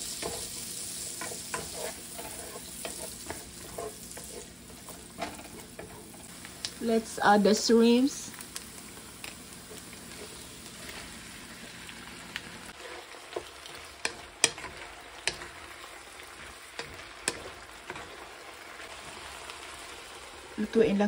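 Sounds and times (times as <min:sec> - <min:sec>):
shrimp sizzling in a pan: 0:00.0 - 0:21.0.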